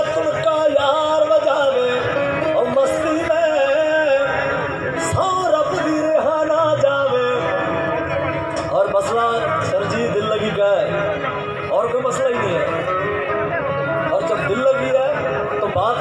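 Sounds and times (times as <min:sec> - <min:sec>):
folk band playing: 0:00.0 - 0:16.0
man singing long notes: 0:00.0 - 0:16.0.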